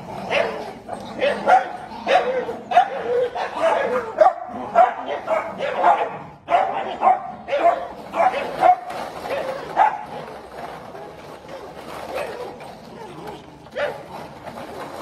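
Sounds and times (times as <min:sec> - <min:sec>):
small dogs barking: 0:00.1 - 0:10.2, 0:11.9 - 0:14.2.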